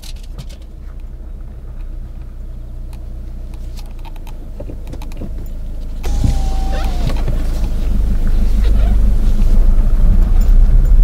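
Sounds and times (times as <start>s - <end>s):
diesel engine from inside car: 0.1s - 11.0s.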